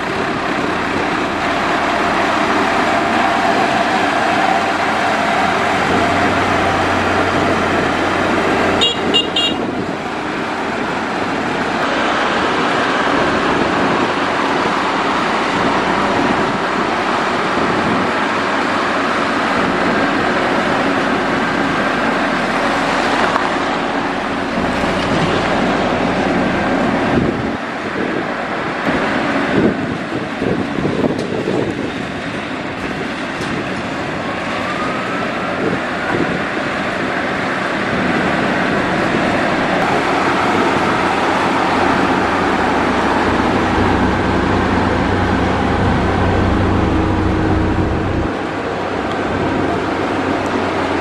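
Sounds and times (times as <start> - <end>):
diesel engine running under load: 0.0 - 51.0.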